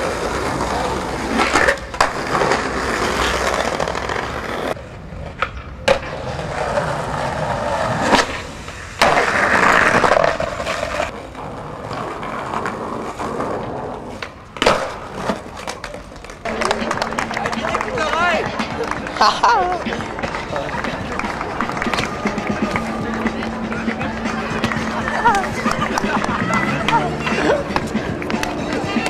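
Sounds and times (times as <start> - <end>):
skateboard clacks: 0.0 - 29.0
skateboard wheels rolling on bricks: 0.0 - 29.0.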